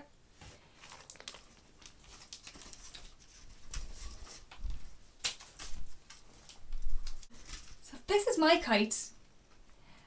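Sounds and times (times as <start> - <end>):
plastic bag rustling and crinkling: 0.4 - 8.4.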